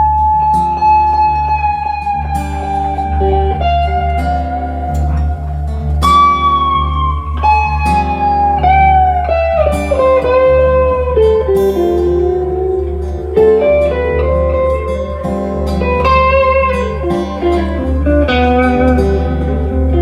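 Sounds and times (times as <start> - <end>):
bass line: 0.0 - 20.0
lead guitar bending notes: 0.0 - 20.0.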